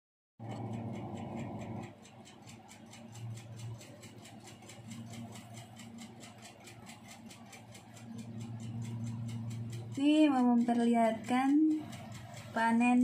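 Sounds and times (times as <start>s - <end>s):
rapid even ticking: 0.4s - 13.0s.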